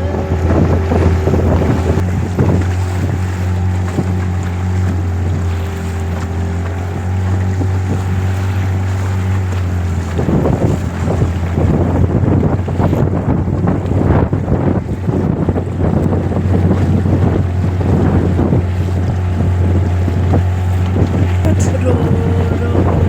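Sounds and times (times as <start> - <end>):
motorboat engine running: 0.0 - 23.0
wind buffeting microphone: 0.0 - 23.0.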